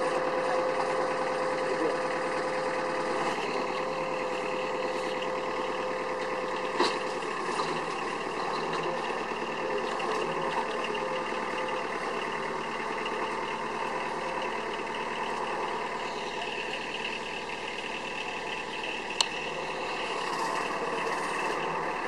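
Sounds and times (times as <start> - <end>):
machine engine and conveyor drone: 0.0 - 22.0
steady mechanical whine: 0.0 - 22.0.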